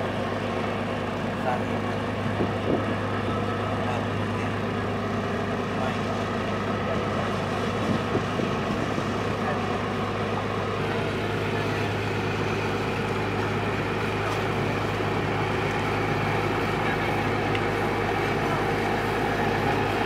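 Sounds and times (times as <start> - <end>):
ship diesel engines droning: 0.0 - 20.0.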